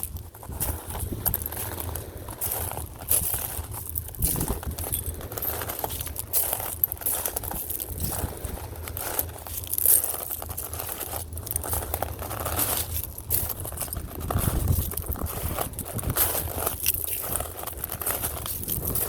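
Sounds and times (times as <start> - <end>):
footsteps crunching over shells: 0.0 - 19.0.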